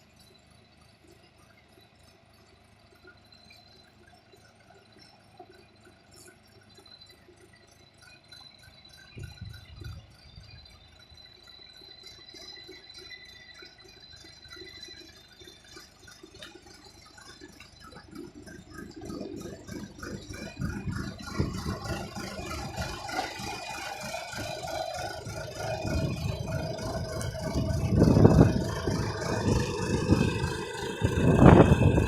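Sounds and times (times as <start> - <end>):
backhoe engine rattling: 0.0 - 32.0.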